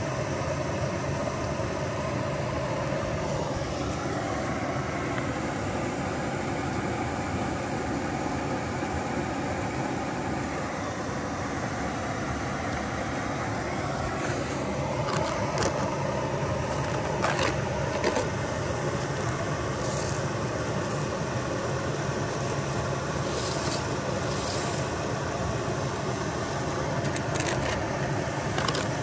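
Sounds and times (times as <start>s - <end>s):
small waterfall rushing: 0.0s - 29.0s.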